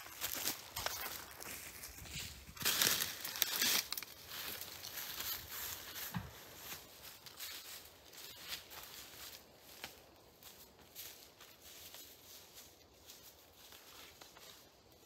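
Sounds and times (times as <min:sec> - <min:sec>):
crunching in dry leaves: 0:00.0 - 0:15.0.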